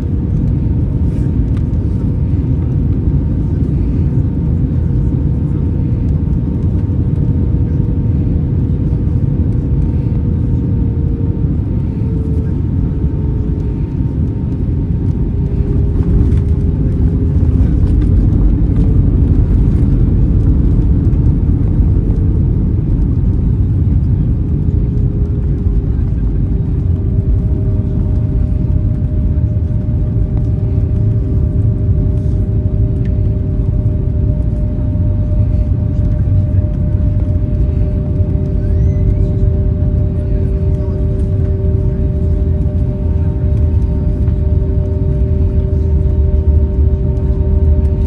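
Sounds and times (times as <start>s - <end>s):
jet engines rumbling in flight: 0.0s - 48.0s.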